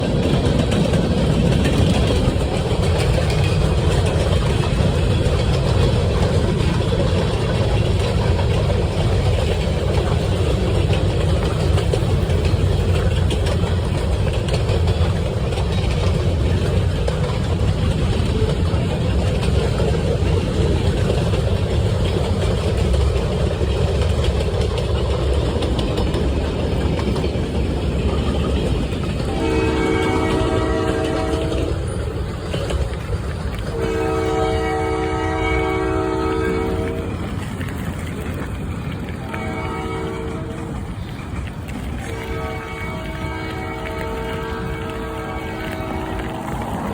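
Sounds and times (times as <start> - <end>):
road and wind noise: 0.0 - 46.9
vehicles rumbling: 0.0 - 46.9.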